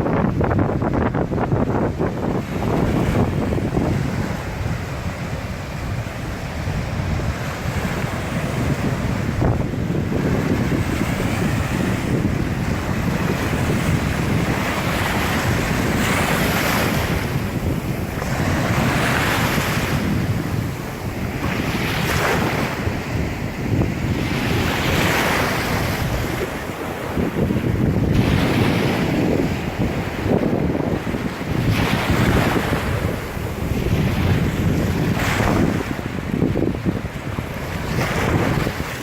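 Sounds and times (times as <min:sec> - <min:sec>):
wind buffeting microphone: 0:00.0 - 0:39.0
ocean surf breaking: 0:00.8 - 0:39.0.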